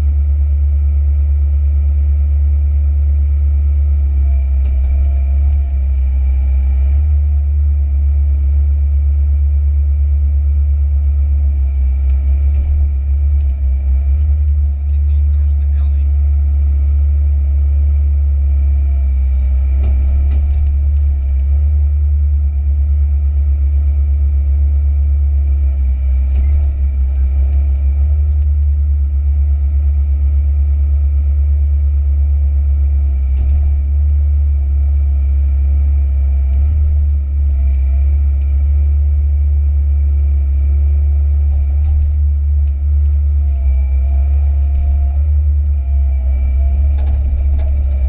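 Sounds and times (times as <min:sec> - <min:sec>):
excavator engine droning: 0:00.0 - 0:48.0
steady whine: 0:00.0 - 0:48.0.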